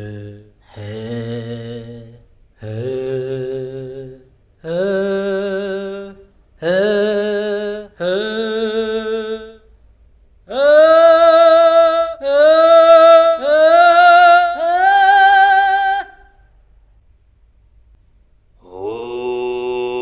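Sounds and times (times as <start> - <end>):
solo voice singing with vibrato: 0.0 - 9.7, 10.5 - 16.5, 18.6 - 20.0.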